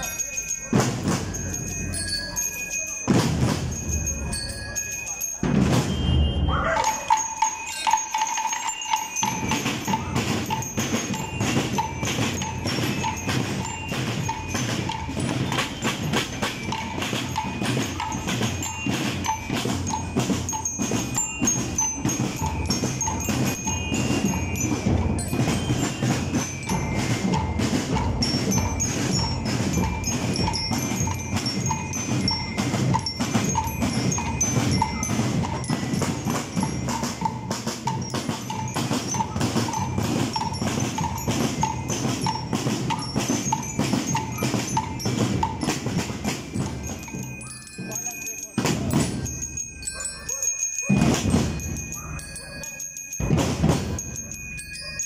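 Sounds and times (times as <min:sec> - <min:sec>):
snare and bass drums marching: 0:00.0 - 0:02.0, 0:03.0 - 0:04.4, 0:05.4 - 0:49.6, 0:50.8 - 0:52.2, 0:53.2 - 0:54.4
bell-like metal bars tune: 0:00.0 - 0:55.0.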